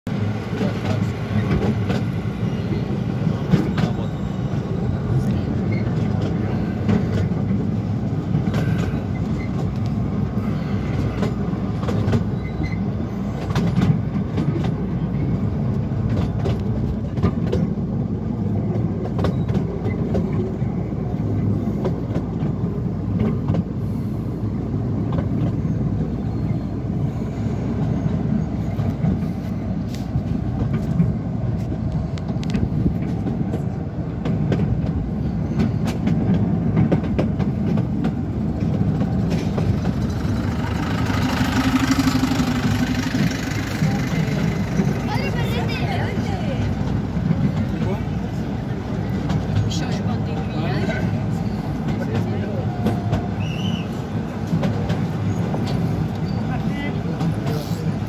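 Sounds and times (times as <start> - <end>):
train wheels rumbling on rails: 0.1 - 58.0.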